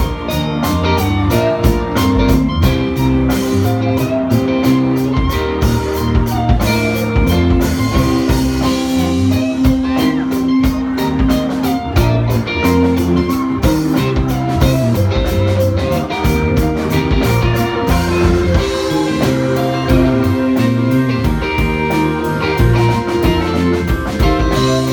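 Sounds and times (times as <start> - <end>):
live rock band playing: 0.0 - 24.9.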